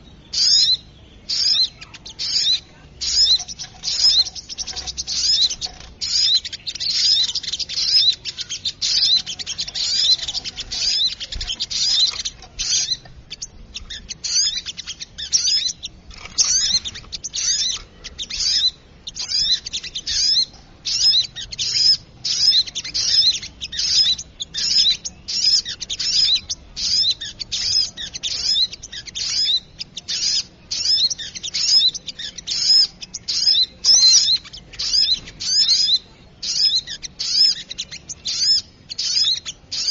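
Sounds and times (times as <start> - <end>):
high-pitched bird chirps: 0.0 - 39.9.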